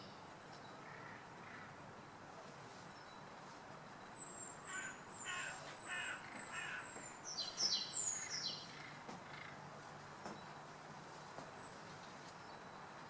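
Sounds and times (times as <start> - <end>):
songbirds calling: 0.0 - 13.0.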